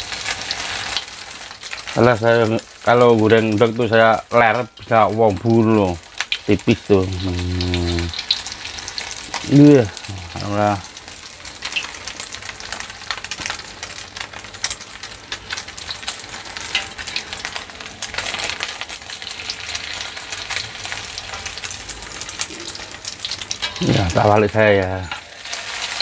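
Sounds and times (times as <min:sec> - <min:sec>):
omelette sizzling in hot oil: 0:00.0 - 0:26.0.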